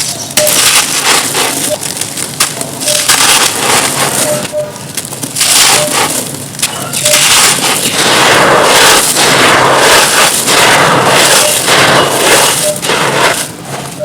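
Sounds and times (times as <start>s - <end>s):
dry crumbly chunks being crushed: 0.0s - 13.6s.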